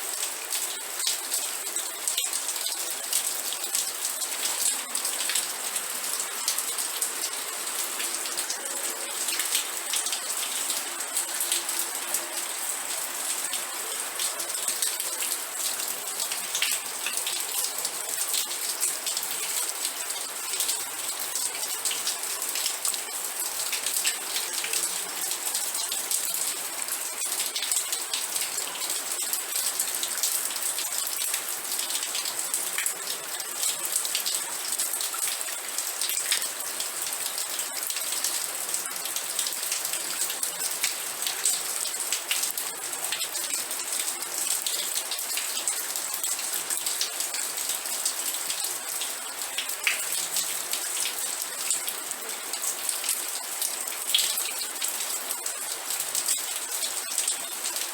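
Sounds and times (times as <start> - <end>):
rain drops pattering: 0.0 - 57.9.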